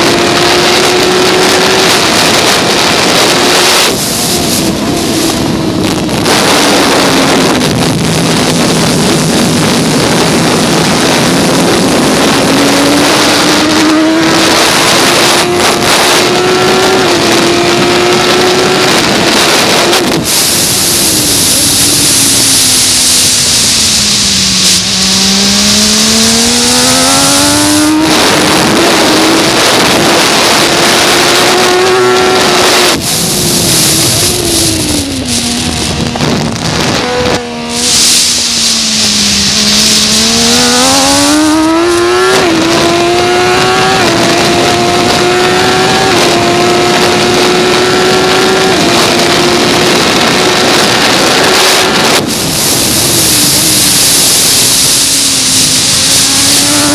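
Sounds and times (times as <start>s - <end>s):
race motorcycle engine revving: 0.0s - 56.9s
wind rush: 0.0s - 56.9s.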